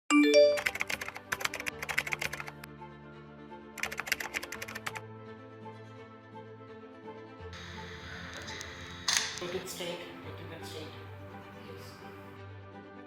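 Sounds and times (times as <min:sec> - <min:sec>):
background music: 0:00.1 - 0:13.0.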